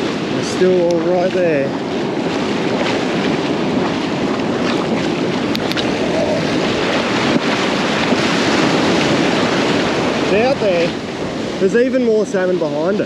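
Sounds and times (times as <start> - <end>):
ocean waves breaking on beach: 0.0 - 13.0
wind buffeting microphone: 0.0 - 13.0.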